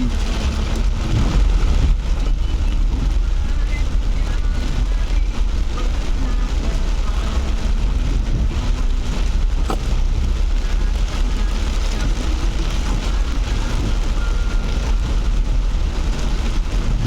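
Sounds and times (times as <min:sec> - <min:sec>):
engine and road rumble: 0:00.0 - 0:17.0
rain hissing on vehicle: 0:00.0 - 0:17.0.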